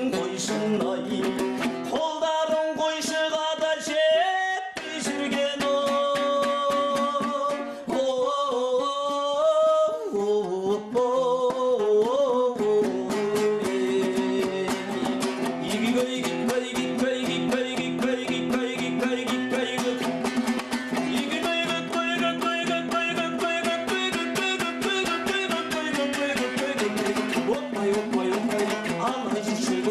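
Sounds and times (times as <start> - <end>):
person singing: 0.0 - 29.9
strummed string instrument: 0.0 - 29.9.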